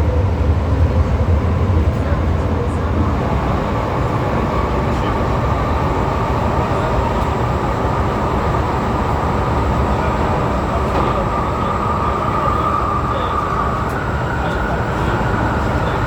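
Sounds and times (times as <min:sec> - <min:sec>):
faint train whine: 0:00.0 - 0:16.0
train wheels rumbling on rail: 0:00.0 - 0:16.0.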